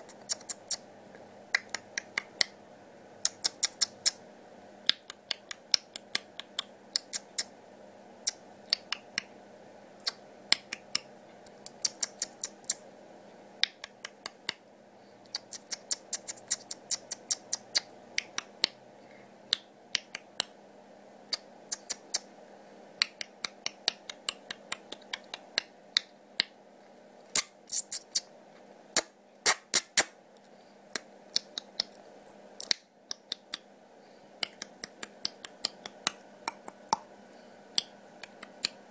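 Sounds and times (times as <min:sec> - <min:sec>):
faint hum: 0:00.0 - 0:38.9.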